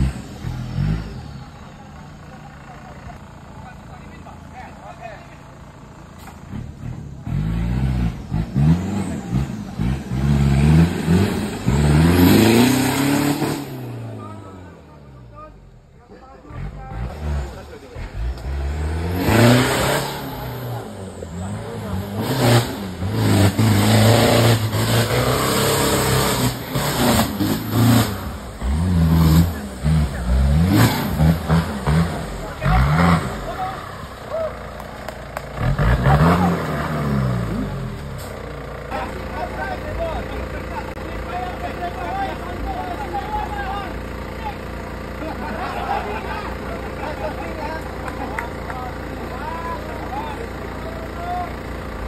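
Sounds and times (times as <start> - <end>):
engine revving: 0.0 - 4.6, 6.1 - 15.6, 16.4 - 52.0.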